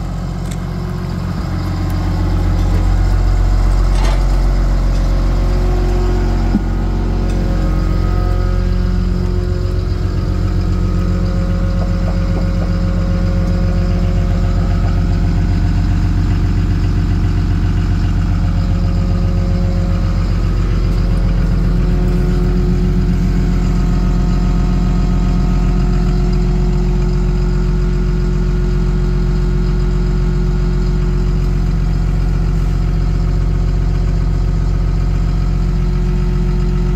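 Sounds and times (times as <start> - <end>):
vehicle engine idling: 0.0 - 36.9.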